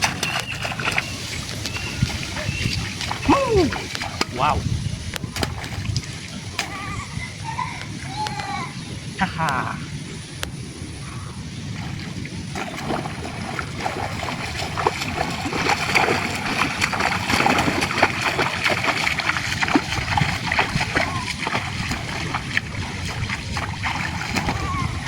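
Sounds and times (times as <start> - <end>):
water splashing and sloshing: 0.0 - 25.0.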